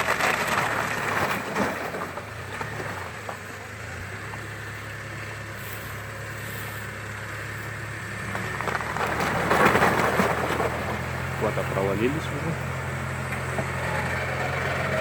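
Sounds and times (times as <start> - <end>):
off-road vehicle engine revving: 0.0 - 15.0
vehicle rushing through mud: 0.0 - 15.0.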